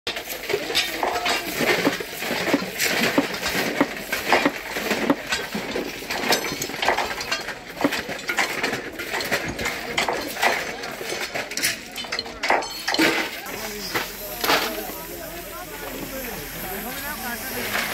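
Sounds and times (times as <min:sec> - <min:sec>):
steel tools scraping on gravel: 0:00.1 - 0:17.9.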